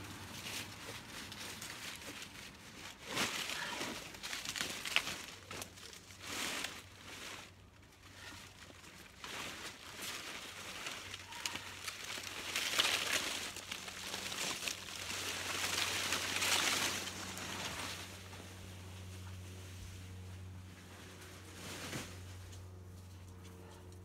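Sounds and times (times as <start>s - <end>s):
dry leaves rustling and crackling: 0.0s - 23.4s.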